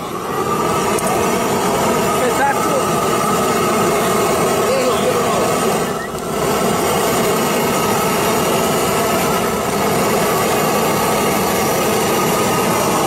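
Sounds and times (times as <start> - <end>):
hot air rushing: 0.0 - 13.0.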